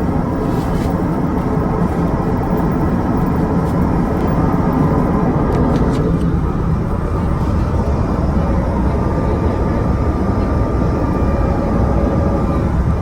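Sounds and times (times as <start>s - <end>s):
airliner engines droning: 0.0s - 13.0s.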